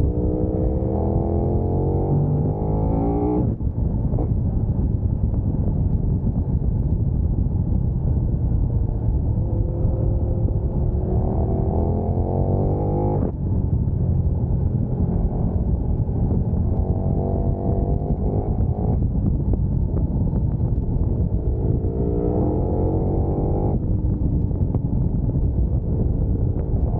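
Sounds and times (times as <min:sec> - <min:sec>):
motorcycle engine accelerating: 0:00.0 - 0:05.4, 0:06.0 - 0:26.9
low wind rumble: 0:00.0 - 0:26.9.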